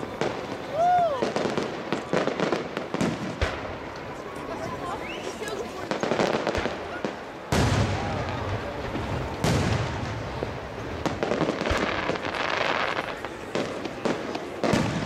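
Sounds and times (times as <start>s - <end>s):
firework booms echoing: 0.0s - 4.0s, 5.9s - 15.0s
firework crackling pops: 0.0s - 15.0s.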